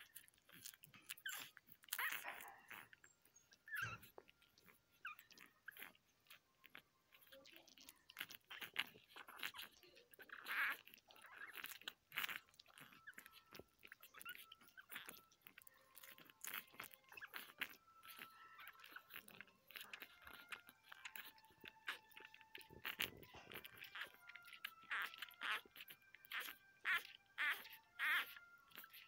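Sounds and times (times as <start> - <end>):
puppies suckling: 0.0 - 29.0
puppy squeaks: 0.0 - 29.0.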